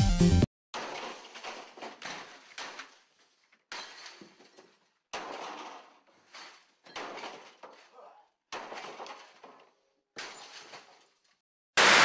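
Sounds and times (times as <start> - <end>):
office equipment crashing: 0.8 - 11.1.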